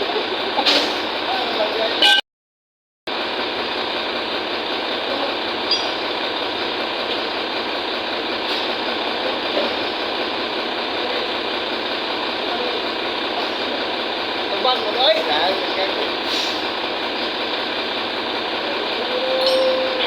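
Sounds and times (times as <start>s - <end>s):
engine running: 0.0s - 2.1s, 3.1s - 20.0s.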